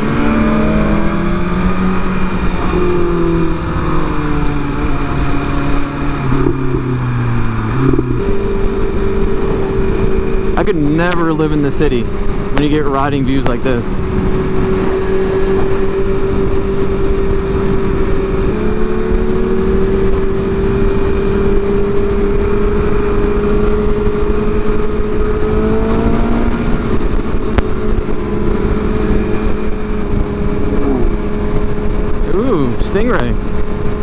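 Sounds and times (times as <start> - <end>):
motorcycle engine cruising: 0.0 - 34.0
wind rush on microphone: 0.0 - 34.0.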